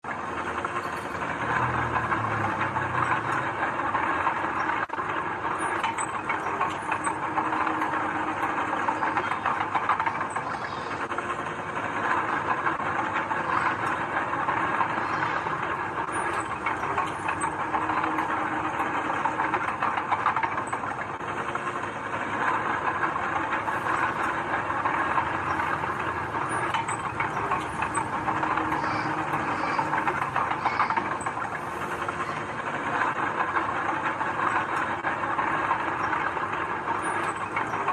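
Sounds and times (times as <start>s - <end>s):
mechanical rattling and clattering: 0.0s - 37.9s
diesel engine noise: 0.1s - 37.9s.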